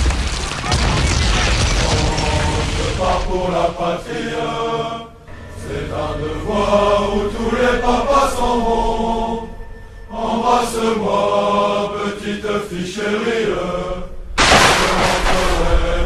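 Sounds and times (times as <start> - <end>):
music with chant-like held notes: 1.7 - 16.0.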